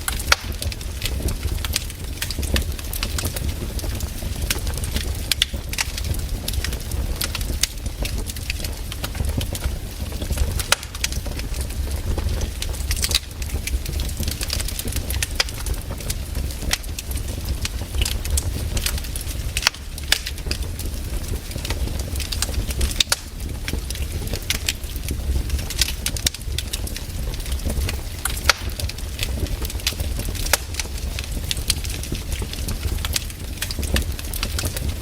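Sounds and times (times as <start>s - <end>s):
low fire rumble: 0.0s - 35.0s
wood fire crackling: 0.0s - 35.0s.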